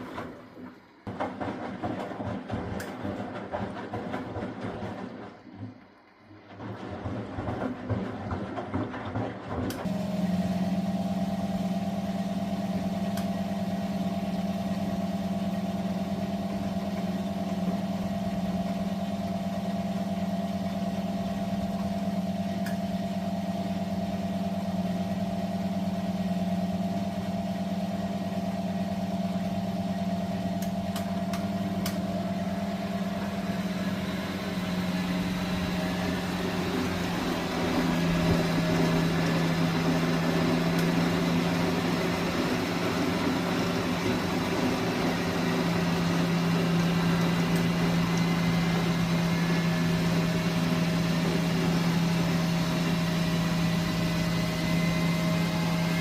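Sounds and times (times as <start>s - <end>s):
washing machine knocking and rumbling: 0.0s - 56.0s
washing machine motor hum: 0.0s - 56.0s.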